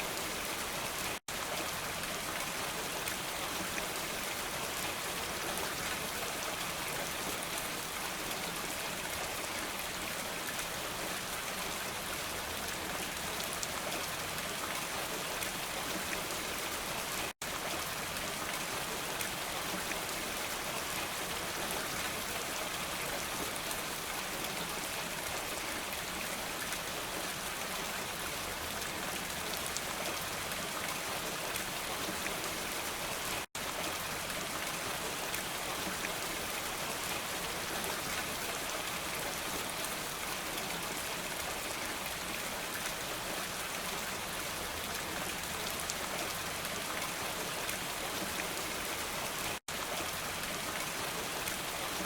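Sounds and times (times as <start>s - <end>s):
dense rainfall pattering: 0.0s - 52.0s.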